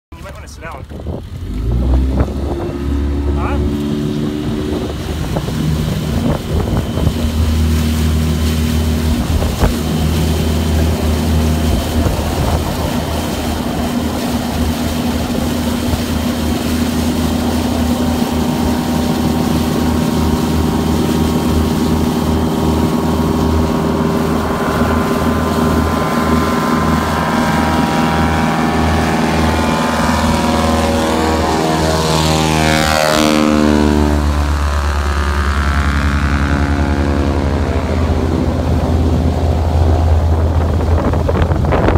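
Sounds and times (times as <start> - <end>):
propeller plane engine: 0.1 - 41.9.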